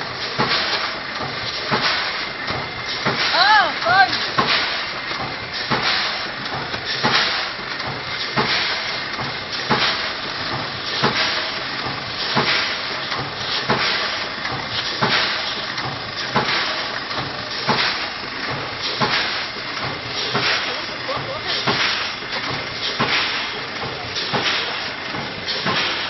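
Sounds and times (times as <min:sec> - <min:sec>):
packing machine clacking: 0:00.0 - 0:26.0.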